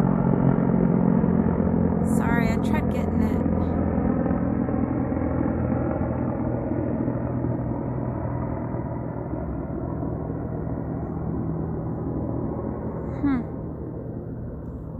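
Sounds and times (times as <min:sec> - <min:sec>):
helicopter flying overhead: 0:00.0 - 0:14.9.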